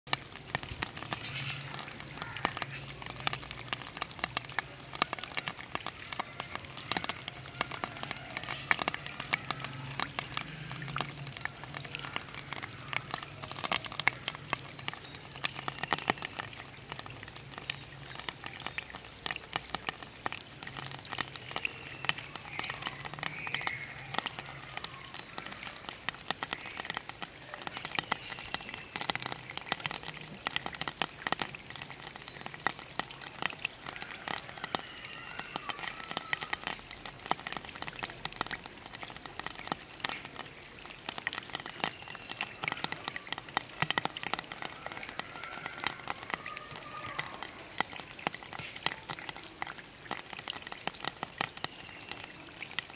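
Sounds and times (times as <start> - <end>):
rain pattering on hard surface: 0.0 - 52.9.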